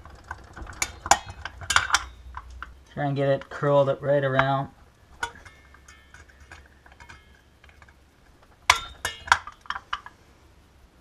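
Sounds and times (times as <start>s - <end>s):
metal spring and pliers clinking: 0.0s - 3.7s, 4.3s - 10.2s.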